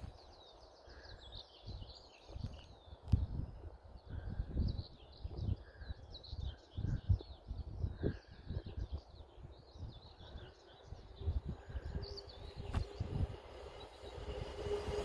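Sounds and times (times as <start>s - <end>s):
small birds singing: 0.0s - 14.3s
wind buffeting the microphone: 1.2s - 15.0s.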